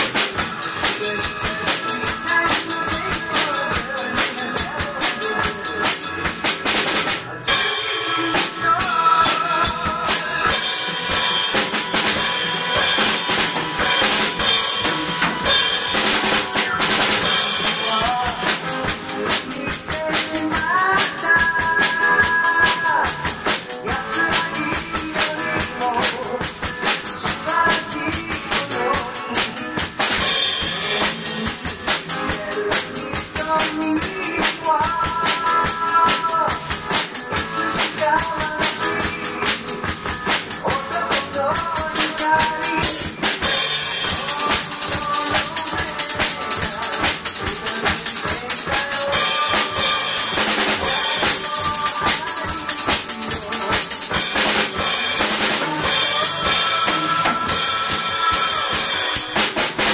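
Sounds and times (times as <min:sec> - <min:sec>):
acoustic drum kit beat: 0:00.0 - 0:59.9
pop-rock backing track: 0:00.0 - 0:59.9.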